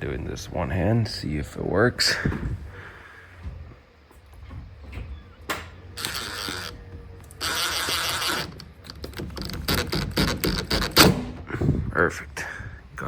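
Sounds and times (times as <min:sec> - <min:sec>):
scraping and rustling behind plastic trim: 0:00.0 - 0:13.0.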